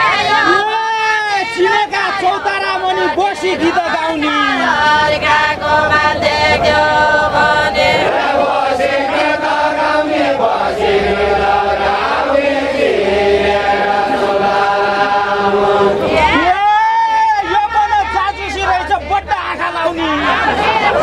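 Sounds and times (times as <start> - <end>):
group singing folk song: 0.0 - 16.8, 17.4 - 21.0.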